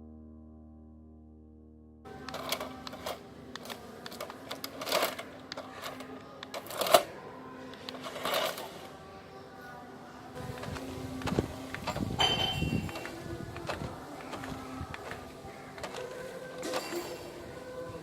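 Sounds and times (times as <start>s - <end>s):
background music: 0.0s - 18.0s
toy car clattering and clicking: 2.2s - 9.0s, 10.4s - 18.0s.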